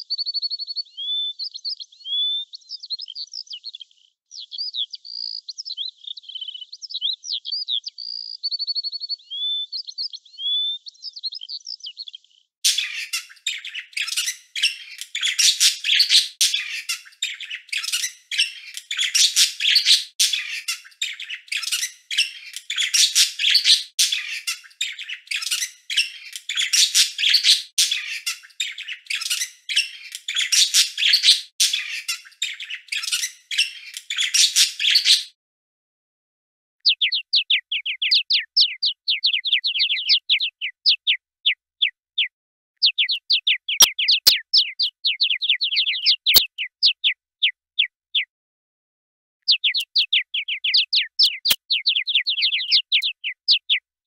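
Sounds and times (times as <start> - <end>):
songbird chirping and whistling: 0.0 - 35.3, 36.8 - 48.3, 49.4 - 53.9.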